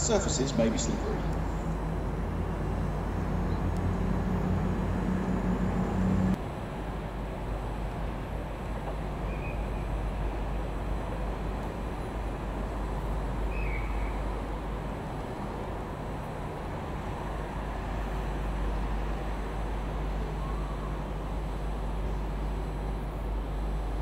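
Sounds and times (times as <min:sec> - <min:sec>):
diesel locomotive idling: 0:00.0 - 0:24.0.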